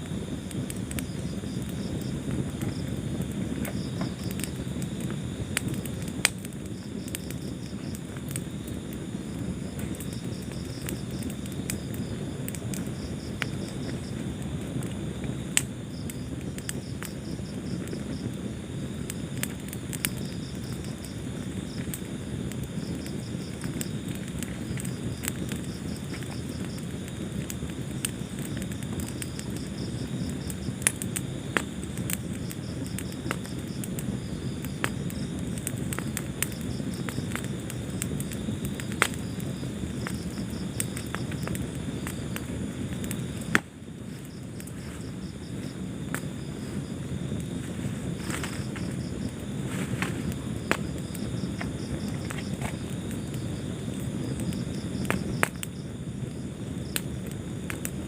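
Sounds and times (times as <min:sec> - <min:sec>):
crickets chirping: 0:00.0 - 0:58.0
wood fire crackling: 0:00.0 - 0:58.0.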